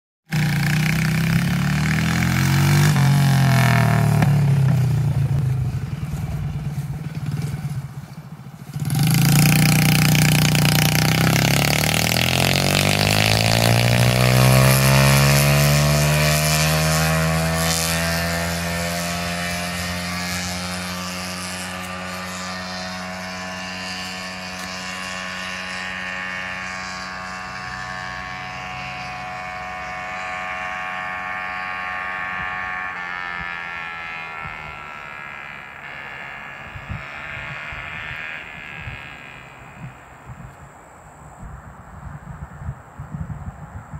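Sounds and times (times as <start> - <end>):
go-kart engine revving: 0.3 - 40.5.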